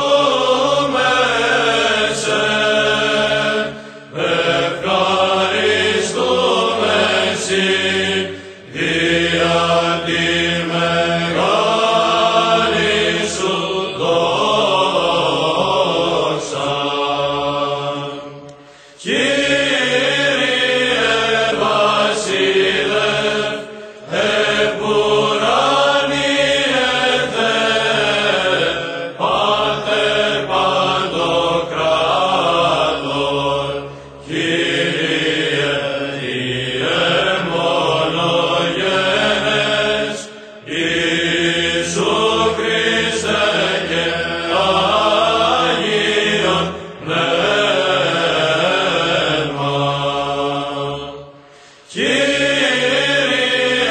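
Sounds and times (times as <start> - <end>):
liturgical chant singing: 0.0 - 53.9.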